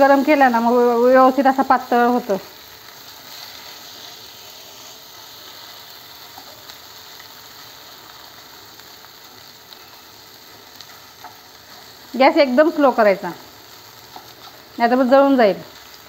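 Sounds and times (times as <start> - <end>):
gentle sizzle in a pan: 0.0 - 16.0.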